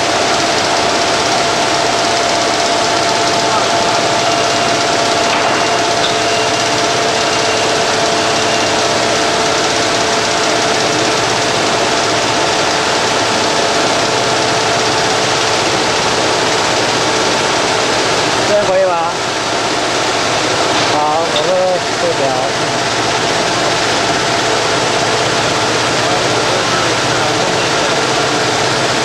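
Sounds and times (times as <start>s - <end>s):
cartoning machine whirring: 0.0s - 29.0s.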